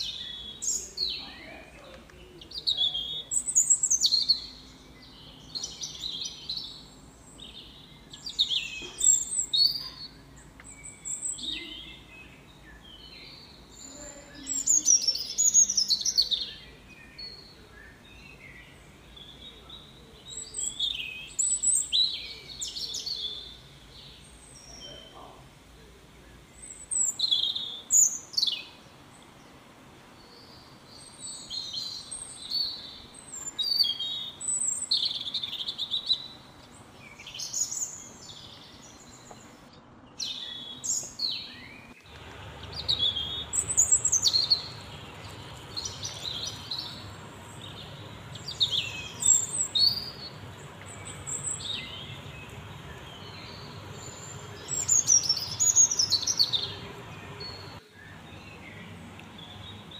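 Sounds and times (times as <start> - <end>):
faint steady hum: 0.0 - 59.9
small birds chirping: 0.0 - 59.9.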